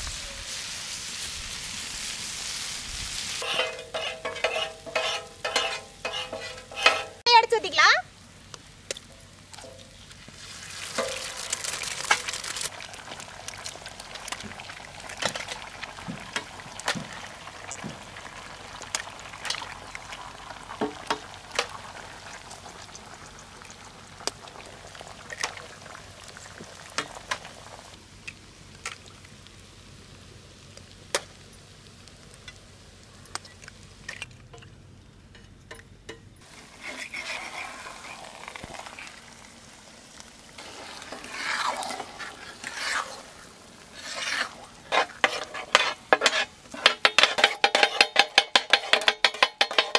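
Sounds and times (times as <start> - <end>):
eggs sizzling in hot oil: 0.0 - 34.1, 36.4 - 49.9.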